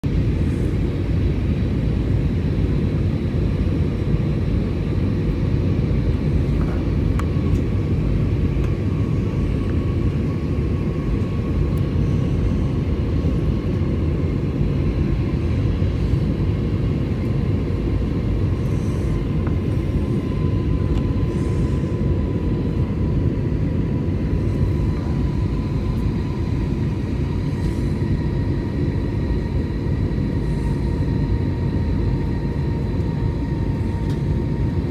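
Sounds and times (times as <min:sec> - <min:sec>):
airplane cabin rumble: 0:00.0 - 0:34.9
jet engines whining: 0:00.1 - 0:34.9.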